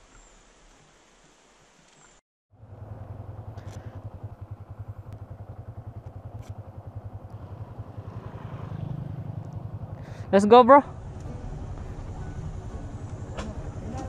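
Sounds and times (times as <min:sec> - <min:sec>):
motorcycle engine idling: 0:02.5 - 0:14.0.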